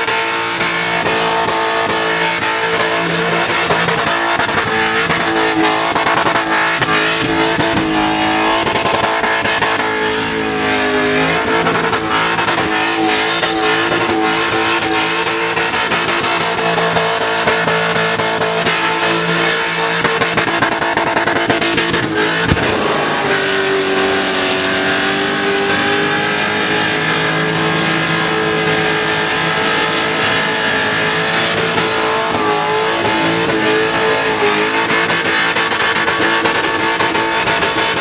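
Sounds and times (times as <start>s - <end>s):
engine at high revs: 0.0s - 38.0s.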